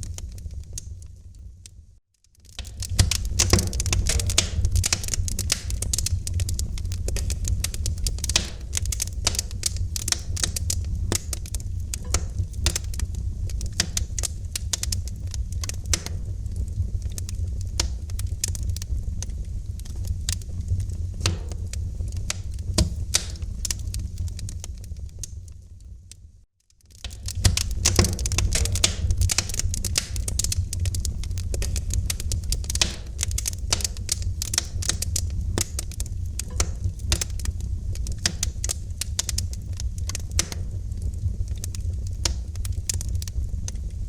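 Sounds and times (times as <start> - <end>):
wood fire crackling: 0.0 - 44.0
steady low rumble: 2.7 - 26.4, 27.2 - 44.0.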